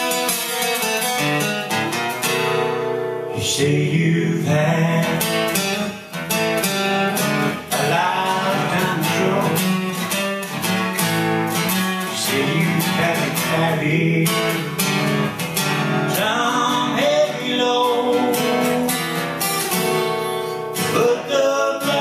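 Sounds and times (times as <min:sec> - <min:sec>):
strummed acoustic guitar: 0:00.0 - 0:22.0
man singing blues: 0:02.4 - 0:10.8, 0:11.6 - 0:19.6, 0:20.8 - 0:22.0.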